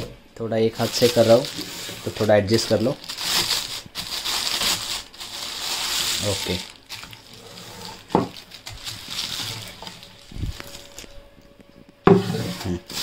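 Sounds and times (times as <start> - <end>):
plastic bag crinkling: 0.7 - 11.6, 12.4 - 13.0.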